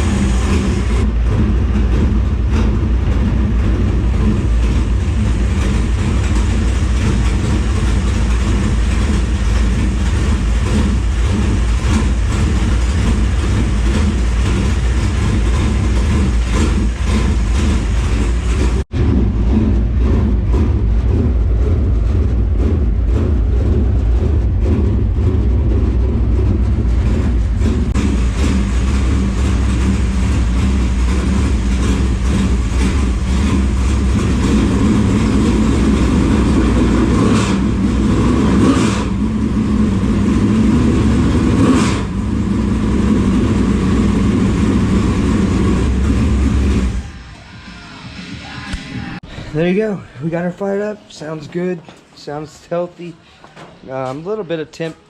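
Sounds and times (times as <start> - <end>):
race car engine running: 0.0 - 49.8.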